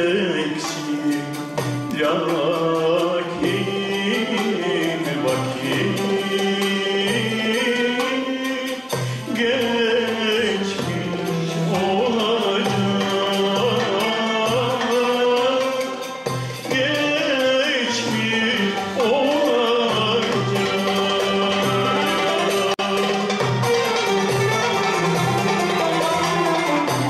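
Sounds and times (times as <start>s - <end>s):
man singing: 0.0s - 23.4s
instrumental ensemble with violin: 0.0s - 27.0s.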